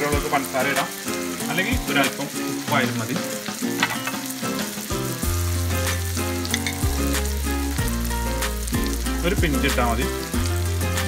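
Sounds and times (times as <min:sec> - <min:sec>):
background music with deep bass: 0:00.0 - 0:11.0
onions sizzling in frying pan: 0:00.0 - 0:11.0.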